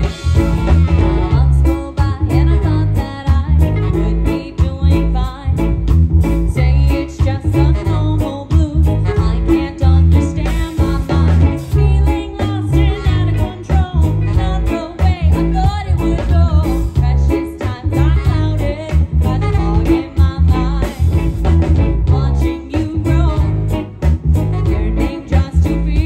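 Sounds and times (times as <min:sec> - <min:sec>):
person singing: 0:00.0 - 0:05.8, 0:06.6 - 0:26.0
live band playing: 0:00.0 - 0:26.0
low bass line: 0:00.0 - 0:26.0
steady drum beat: 0:00.0 - 0:26.0.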